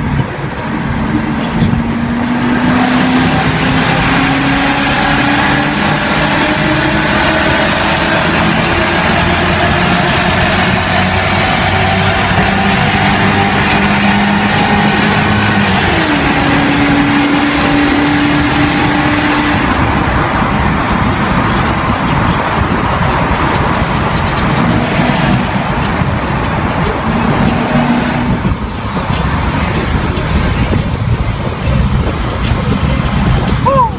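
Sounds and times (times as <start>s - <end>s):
loud engine accelerating hard: 0.0s - 33.9s.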